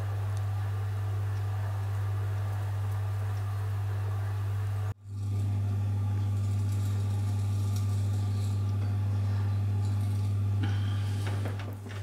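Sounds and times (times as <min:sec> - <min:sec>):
potter's wheel motor humming: 0:00.0 - 0:12.0.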